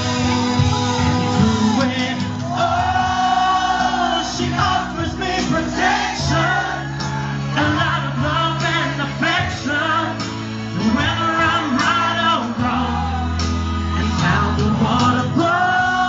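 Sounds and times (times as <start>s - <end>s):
amplified backing music: 0.0s - 16.0s
audience singing along: 0.0s - 16.0s
man singing into a microphone: 0.6s - 16.0s.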